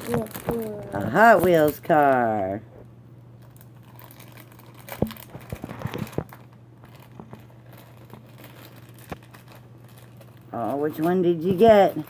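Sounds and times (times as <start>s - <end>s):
plastic packaging crinkling: 0.0s - 2.3s, 3.4s - 12.0s
low steady hum: 0.0s - 12.0s.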